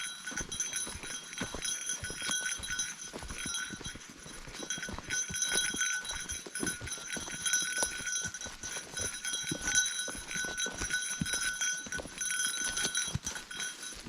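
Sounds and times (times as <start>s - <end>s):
footsteps crunching through undergrowth: 0.0s - 14.0s
small bell jingling: 0.0s - 14.0s.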